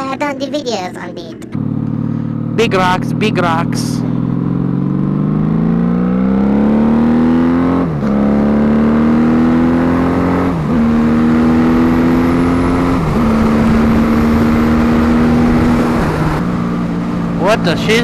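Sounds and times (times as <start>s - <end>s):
motorcycle engine accelerating: 1.3s - 18.0s.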